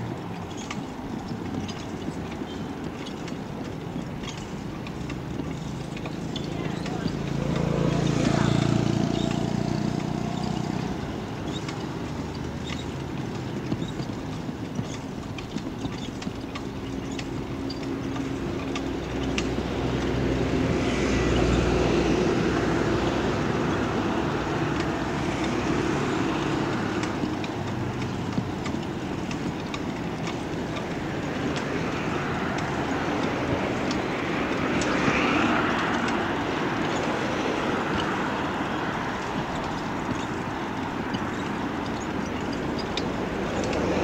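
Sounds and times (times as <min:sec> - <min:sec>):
light clicks and rattles: 0:00.0 - 0:44.0
motorcycle and car engines passing: 0:00.0 - 0:44.0
traffic rumble: 0:00.0 - 0:44.0.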